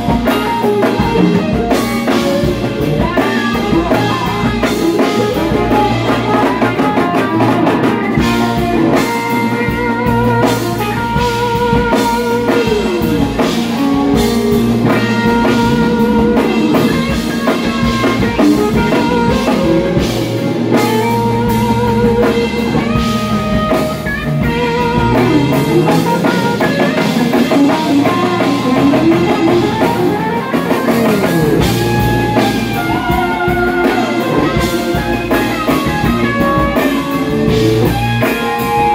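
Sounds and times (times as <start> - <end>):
drum kit: 0.0 - 38.9
electric bass: 0.0 - 38.9
electric guitars: 0.0 - 38.9
keyboards: 0.0 - 38.9.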